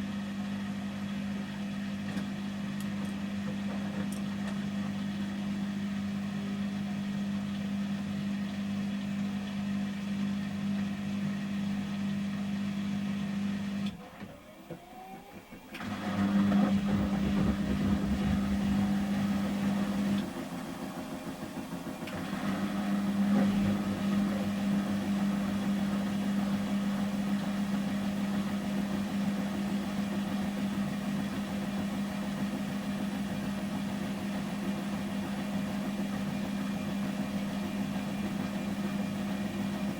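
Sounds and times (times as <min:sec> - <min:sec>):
washing machine spinning hum: 0:00.0 - 0:39.9.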